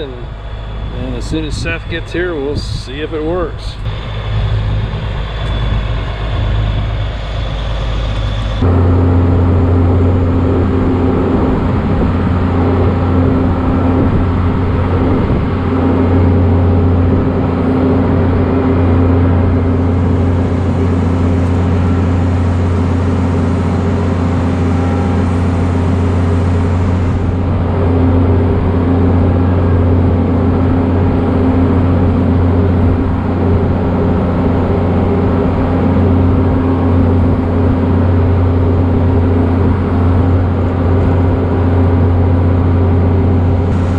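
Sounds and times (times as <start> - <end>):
combine engine drone: 0.0 - 43.9.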